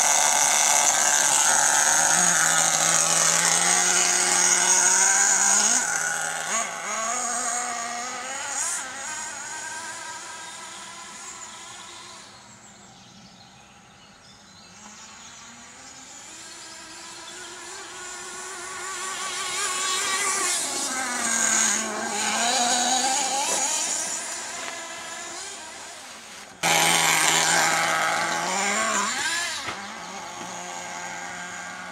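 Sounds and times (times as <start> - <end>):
rc truck engine buzzing: 0.0 - 31.9.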